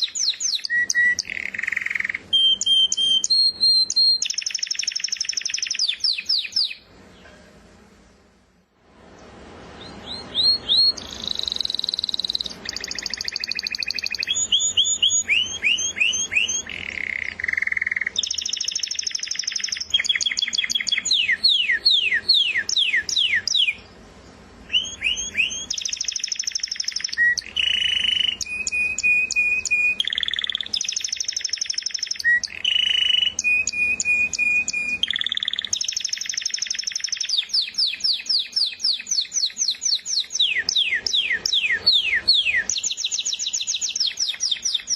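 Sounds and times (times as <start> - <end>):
canary singing: 0.0 - 7.4, 9.2 - 44.9.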